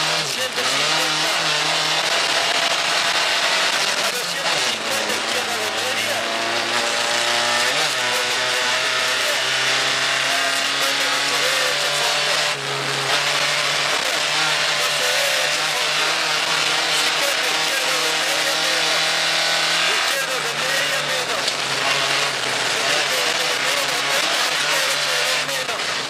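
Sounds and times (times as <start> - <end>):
car engine at high revs: 0.0 - 26.0.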